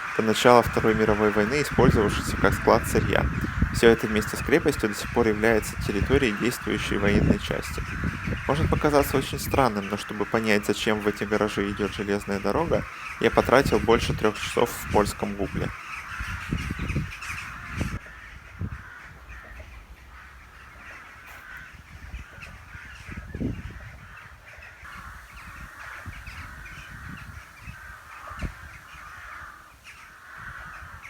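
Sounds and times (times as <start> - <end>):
crows cawing: 0.0 - 31.0.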